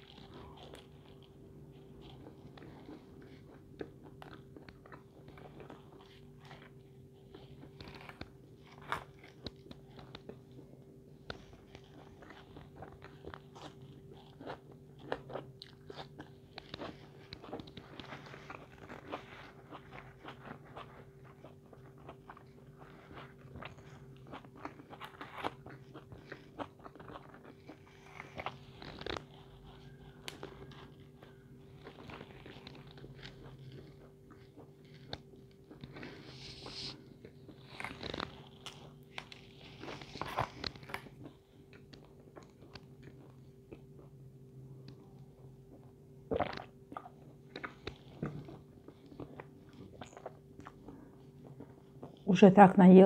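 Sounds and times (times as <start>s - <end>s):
chewing pizza crust: 0.0s - 52.4s
steady low hum: 0.0s - 53.0s.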